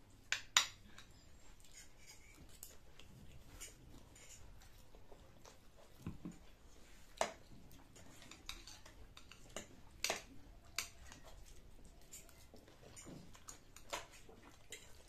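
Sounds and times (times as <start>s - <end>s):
chewing and slurping noodles: 1.3s - 15.0s.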